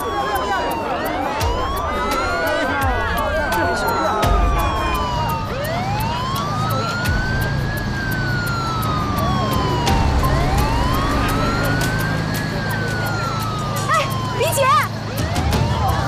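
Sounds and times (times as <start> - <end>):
emergency siren wailing: 0.0 - 16.0
low rumble of vehicle engines: 0.0 - 16.0.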